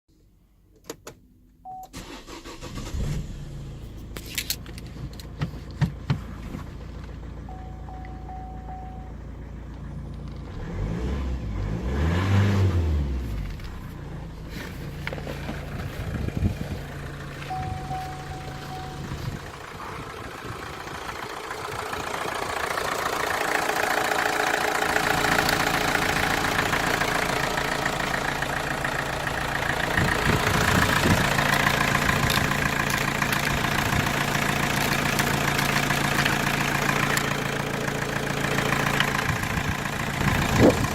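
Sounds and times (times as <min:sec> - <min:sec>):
diesel engine idling and revving: 0:01.7 - 0:40.9.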